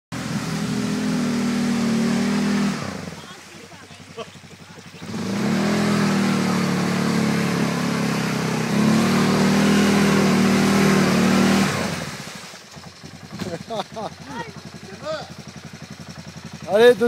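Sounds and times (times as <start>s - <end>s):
quad engine revving: 0.1s - 17.0s.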